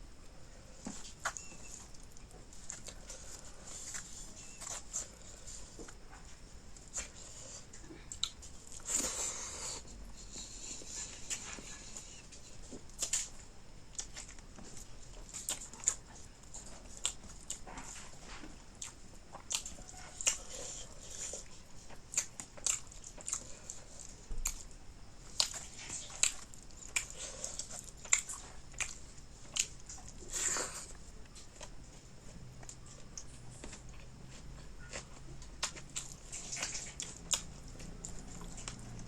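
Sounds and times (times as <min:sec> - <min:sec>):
person eating with wet smacks: 0:00.8 - 0:39.0.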